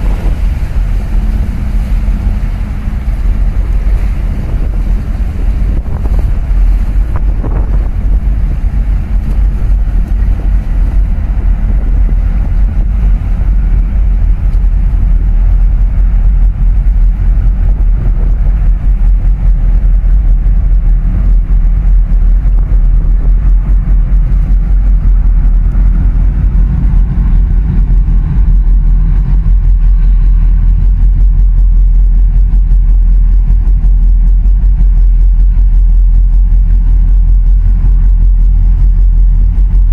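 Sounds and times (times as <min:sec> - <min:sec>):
boat engine rumbling: 0:00.0 - 0:39.9
choppy water rushing: 0:00.0 - 0:39.9
wind buffeting microphone: 0:00.0 - 0:39.9.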